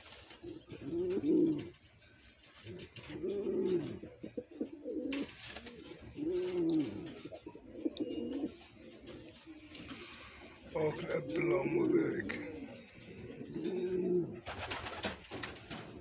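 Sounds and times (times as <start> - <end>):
pigeon cooing: 0.0 - 1.8, 2.6 - 16.0.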